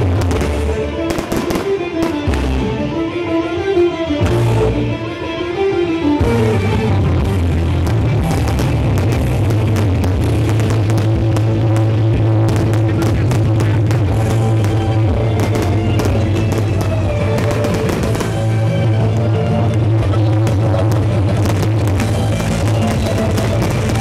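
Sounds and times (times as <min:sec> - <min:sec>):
firework bangs and crackles: 0:00.0 - 0:02.7, 0:06.3 - 0:24.0
loud rock music: 0:00.0 - 0:24.0.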